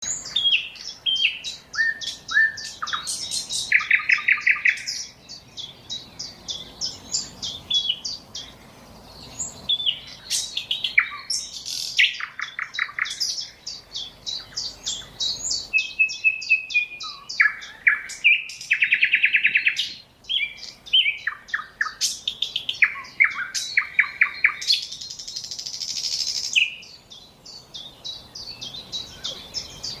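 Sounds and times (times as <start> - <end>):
songbird chirps and trills: 0.0 - 30.0.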